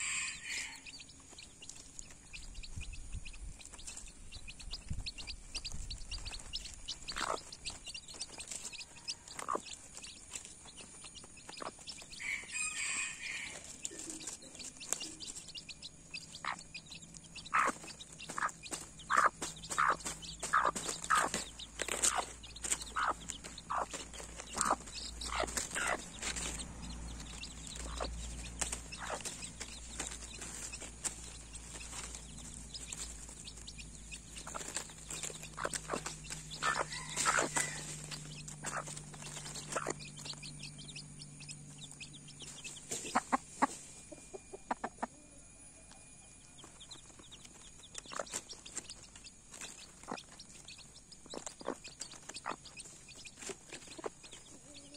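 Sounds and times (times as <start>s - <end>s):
hen clucking: 0.0s - 45.4s, 46.8s - 54.9s
chicks peeping: 0.0s - 54.9s.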